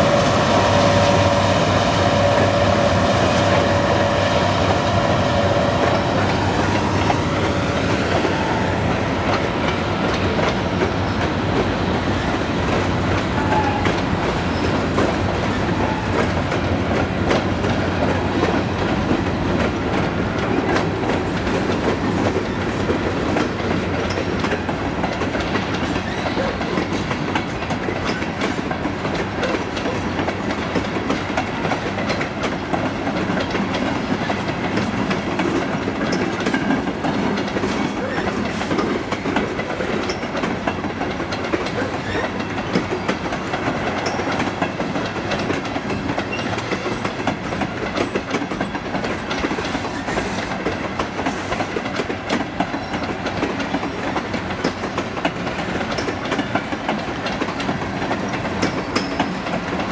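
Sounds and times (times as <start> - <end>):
train wheels rumbling on rails: 0.0 - 59.9
wheels clacking over rail joints: 0.4 - 59.9.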